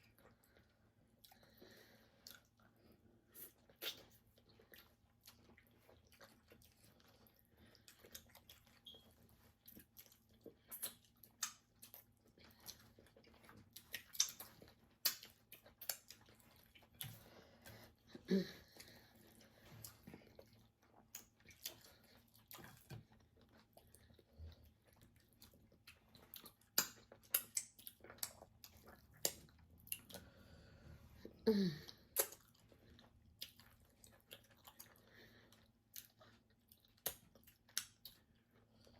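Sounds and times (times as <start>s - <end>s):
wet chewing and mouth smacks: 0.0s - 30.4s, 31.9s - 38.9s.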